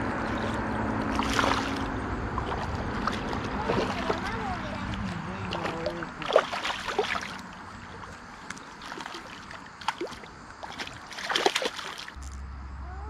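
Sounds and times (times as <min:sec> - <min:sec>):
fish splashing in water: 0:00.0 - 0:12.3.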